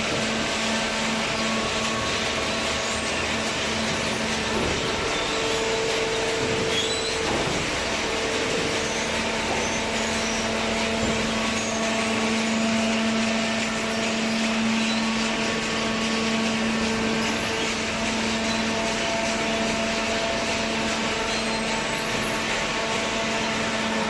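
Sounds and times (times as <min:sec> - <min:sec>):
baler machine hum: 0:00.0 - 0:24.0.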